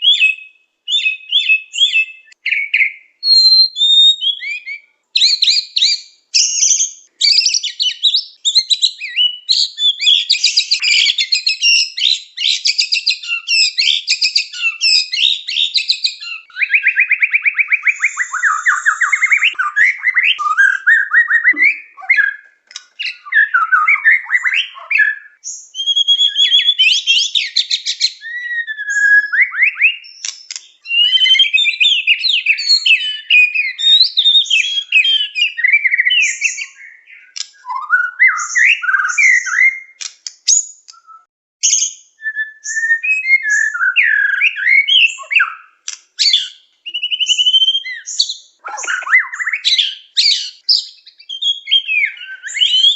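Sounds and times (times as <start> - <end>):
bird singing varied whistles and trills: 0.0 - 52.9.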